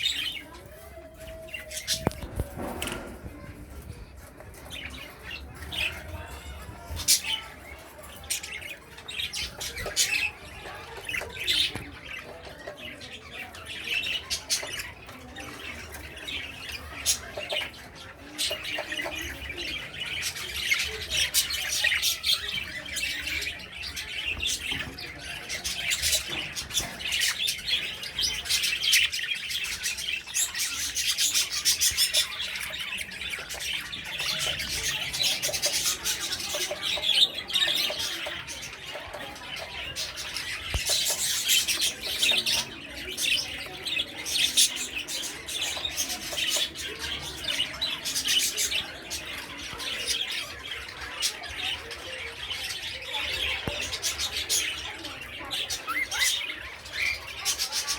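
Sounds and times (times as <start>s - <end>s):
pet birds chirping and squawking: 0.0s - 57.9s.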